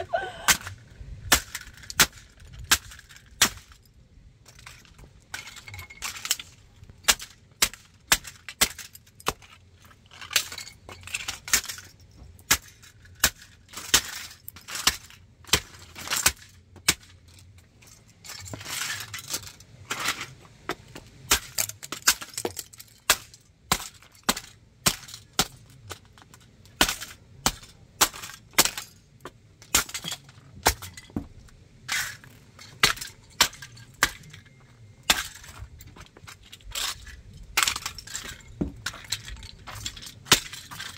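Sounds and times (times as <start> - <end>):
footsteps crushing plastic and metal: 0.0 - 40.9.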